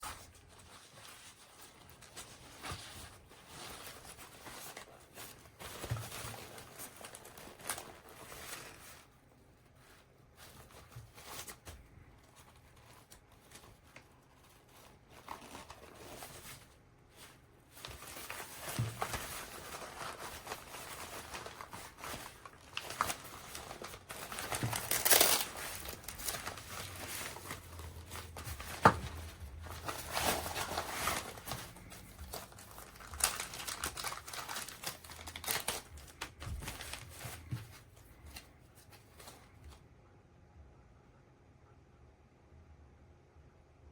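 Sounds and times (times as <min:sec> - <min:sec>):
packaging crinkling and rustling: 0:00.0 - 0:39.8.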